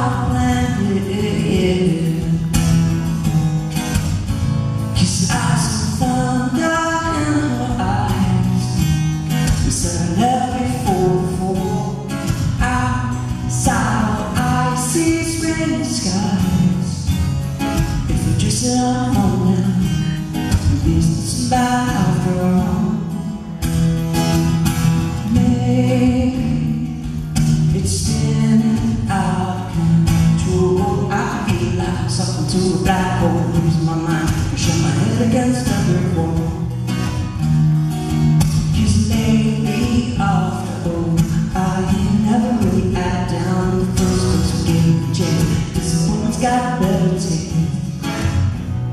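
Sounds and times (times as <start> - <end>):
man singing: 0.0 - 2.8, 4.8 - 23.7, 25.1 - 37.0, 38.4 - 48.4
acoustic guitar: 0.0 - 48.9.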